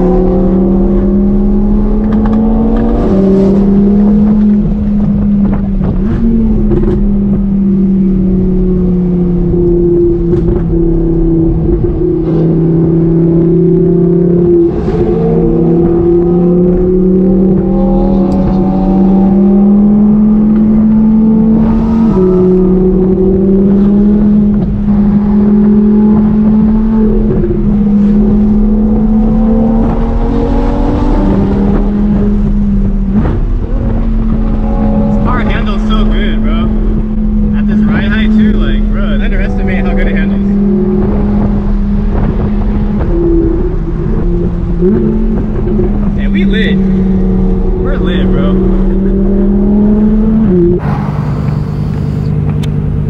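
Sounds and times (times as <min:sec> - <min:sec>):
car engine under load: 0:00.0 - 0:53.0.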